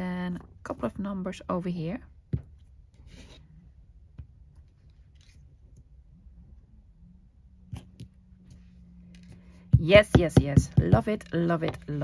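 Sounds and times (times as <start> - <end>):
faint low hum: 0.0 - 10.1.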